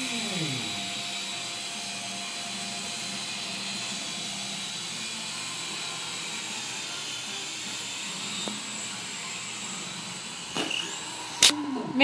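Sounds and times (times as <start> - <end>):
toy helicopter whirring: 0.0 - 12.0.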